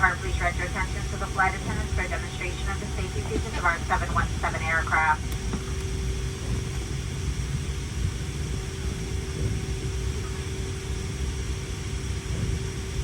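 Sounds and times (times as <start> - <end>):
low hum: 0.0 - 13.0
rush of cabin air: 0.0 - 13.0.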